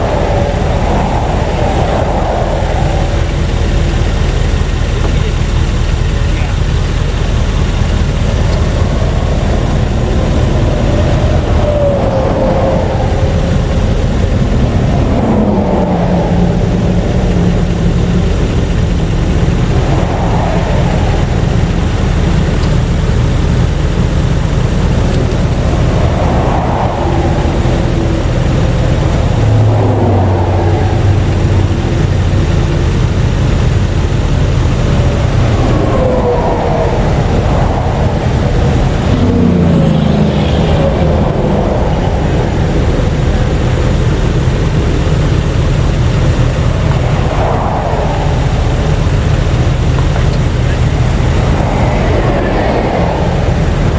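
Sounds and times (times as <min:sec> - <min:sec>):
highway traffic passing: 0:00.0 - 0:53.9.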